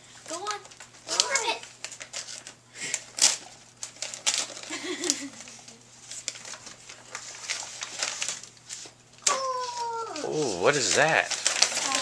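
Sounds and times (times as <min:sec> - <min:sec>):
paper gift bag crinkling: 0:00.2 - 0:12.0.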